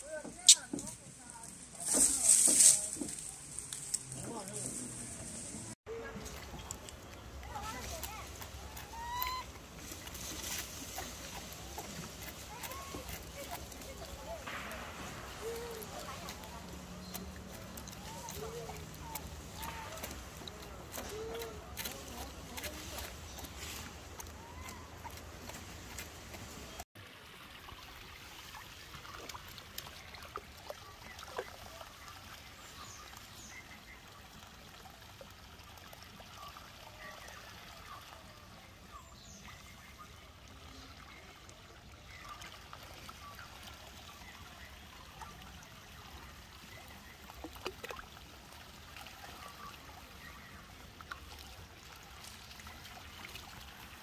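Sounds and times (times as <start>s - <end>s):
puddle water splashing: 0.0s - 54.0s.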